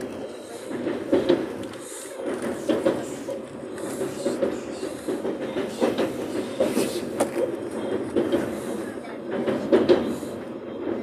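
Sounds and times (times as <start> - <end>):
train rumble: 0.0 - 11.0
wheels clattering on track: 0.0 - 11.0.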